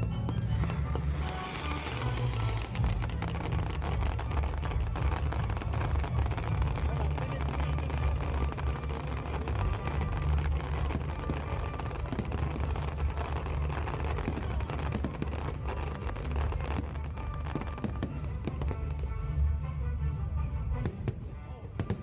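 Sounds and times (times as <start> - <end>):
fireworks bursting and crackling: 0.0 - 19.4, 20.8 - 22.0.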